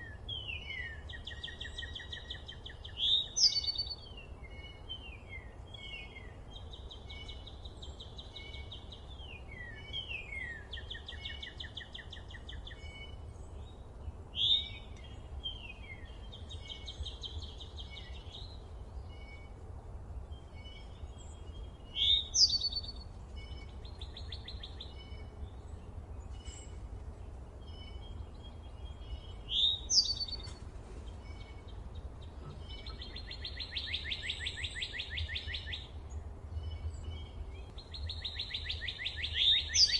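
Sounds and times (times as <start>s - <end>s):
songbirds trilling and whistling: 0.0s - 39.9s.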